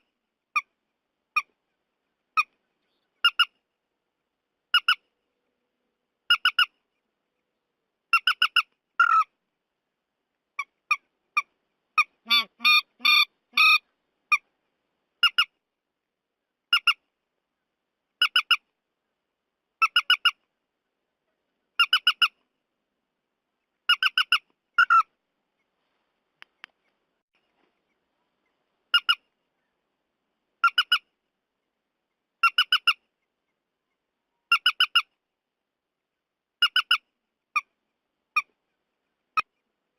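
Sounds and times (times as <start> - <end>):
recorded bird calls: 0.0 - 9.6, 10.4 - 15.7, 16.3 - 22.8, 23.4 - 39.9.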